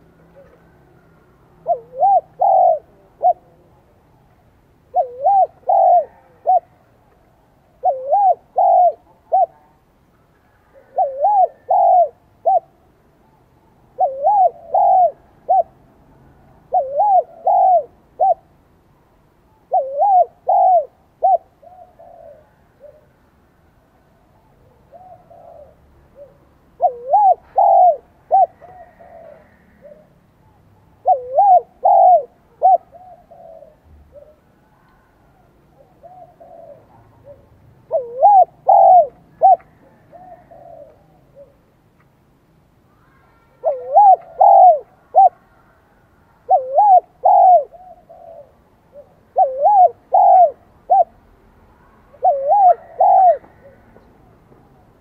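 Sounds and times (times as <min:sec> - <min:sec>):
dove cooing: 0:00.0 - 0:04.2, 0:04.8 - 0:12.9, 0:13.9 - 0:15.9, 0:16.6 - 0:18.5, 0:19.5 - 0:23.2, 0:24.4 - 0:41.8, 0:43.0 - 0:54.1.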